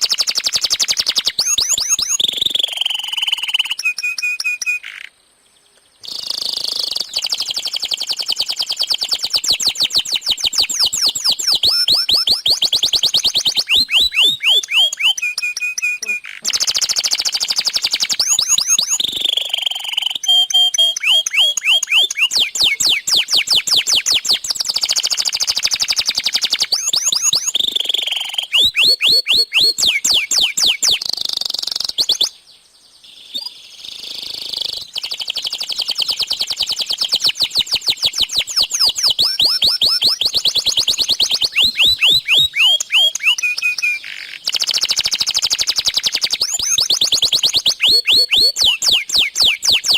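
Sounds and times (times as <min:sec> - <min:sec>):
canary singing trills: 0:00.0 - 0:05.2, 0:05.8 - 0:49.9.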